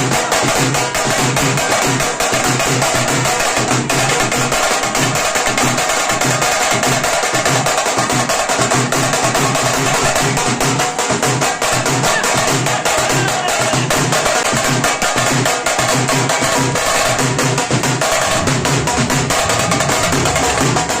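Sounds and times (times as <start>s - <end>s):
drums beaten fast: 0.0s - 21.0s.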